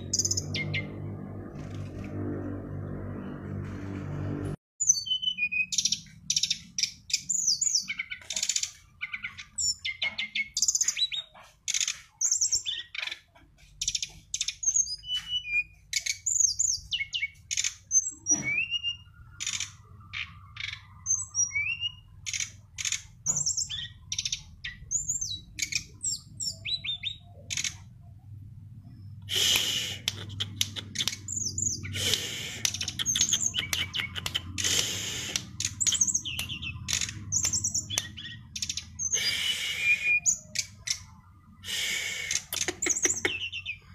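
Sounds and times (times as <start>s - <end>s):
bird singing: 0.0s - 1.2s, 4.8s - 43.9s.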